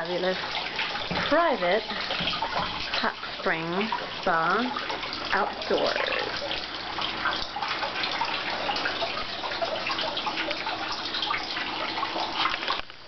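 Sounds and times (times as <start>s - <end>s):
water splashing into tub: 0.0s - 13.0s.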